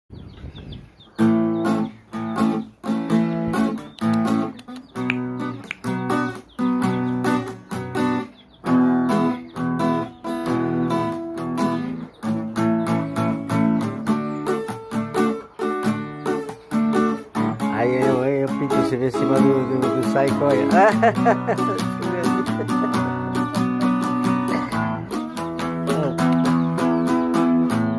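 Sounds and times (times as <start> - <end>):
acoustic guitar strumming: 1.2 - 27.9.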